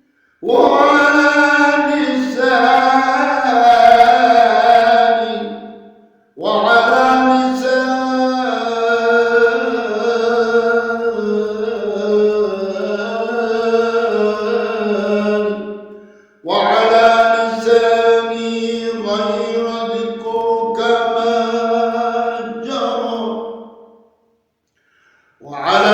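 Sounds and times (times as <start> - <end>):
man chanting melismatically: 0.4 - 23.9, 25.4 - 25.9.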